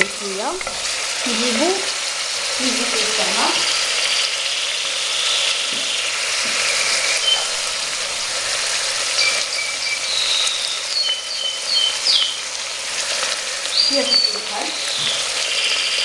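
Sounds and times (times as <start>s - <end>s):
oil sizzling in a pot: 0.0s - 16.0s.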